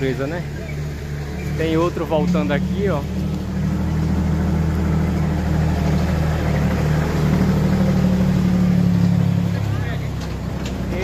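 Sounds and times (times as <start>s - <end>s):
road train engine humming: 0.0s - 11.0s.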